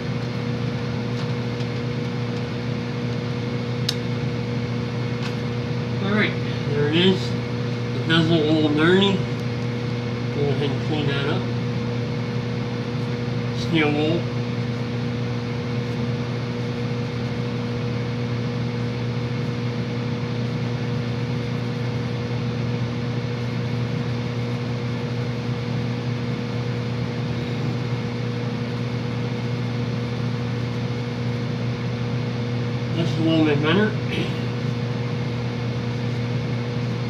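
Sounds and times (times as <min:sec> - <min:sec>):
furnace fan motor hum: 0:00.0 - 0:37.0.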